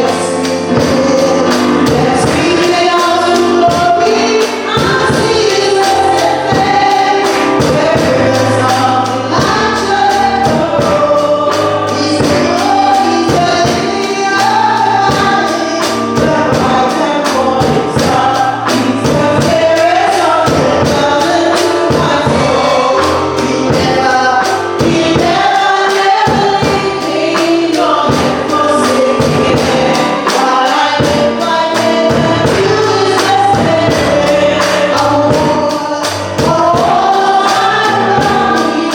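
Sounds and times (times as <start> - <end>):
gospel choir singing: 0.0 - 38.9
instrumental accompaniment with beat: 0.0 - 38.9.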